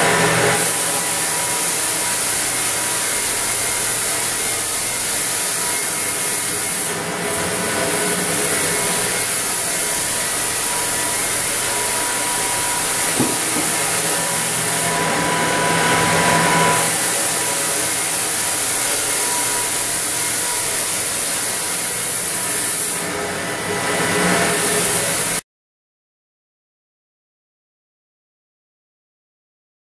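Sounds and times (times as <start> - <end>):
floor sanding machine grinding: 0.0 - 25.4.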